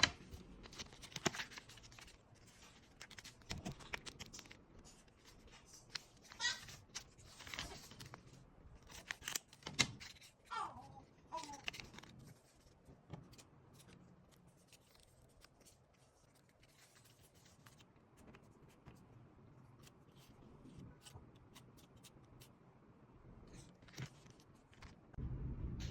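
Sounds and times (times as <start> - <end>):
paper rustling: 0.0 - 10.6, 11.2 - 22.5, 23.5 - 25.0.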